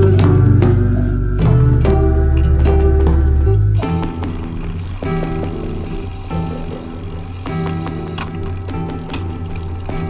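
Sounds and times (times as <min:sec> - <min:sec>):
electronic music: 0:00.0 - 0:10.0
sharp percussion hits: 0:00.0 - 0:10.0.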